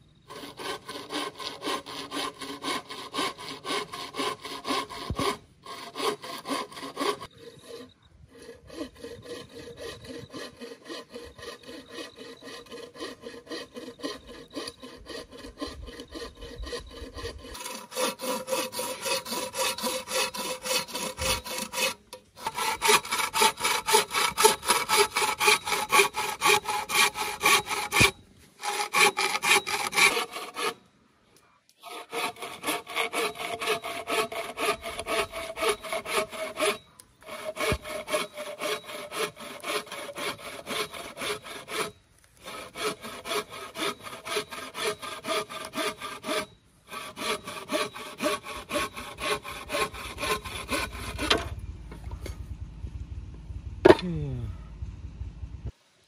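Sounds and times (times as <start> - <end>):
hand saw cutting wood: 0.3 - 30.8, 31.8 - 52.4.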